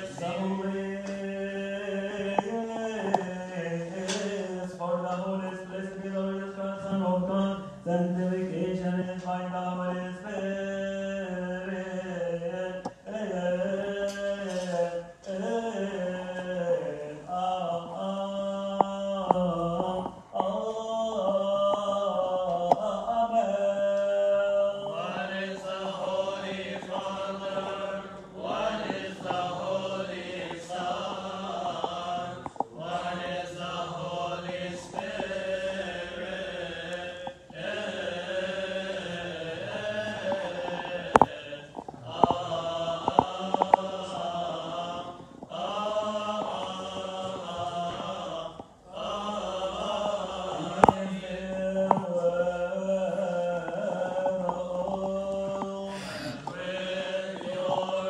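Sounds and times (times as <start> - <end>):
voices singing chant: 0.0 - 58.0.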